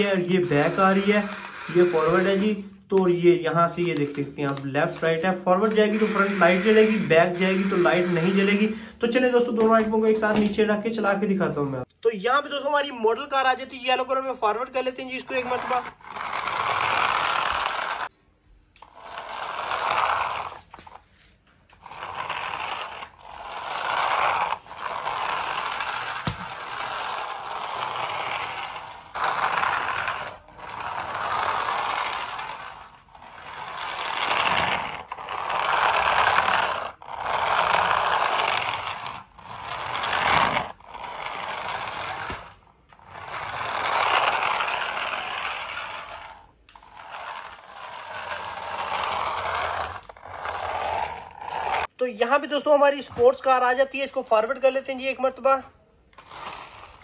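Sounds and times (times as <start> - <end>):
toy car motor whirring: 0.0 - 8.7, 14.0 - 18.1, 18.8 - 21.0, 21.6 - 51.9, 54.5 - 57.0.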